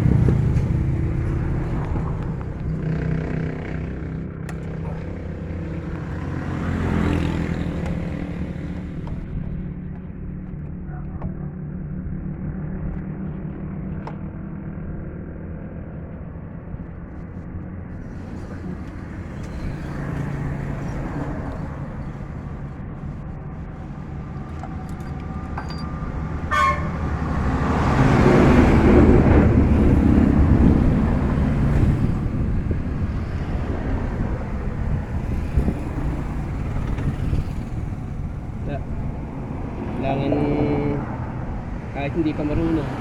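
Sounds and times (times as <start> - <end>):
engine idling: 0.0 - 11.6, 17.9 - 43.0.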